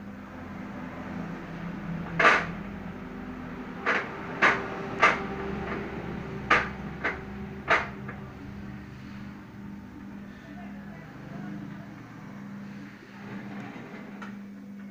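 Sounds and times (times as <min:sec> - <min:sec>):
machine motor humming: 0:00.0 - 0:14.9.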